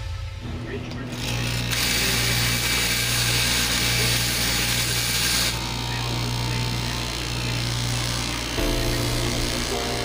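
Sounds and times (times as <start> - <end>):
cutting machine motor hum: 0.5 - 10.0
blade cutting fabric: 1.1 - 10.0.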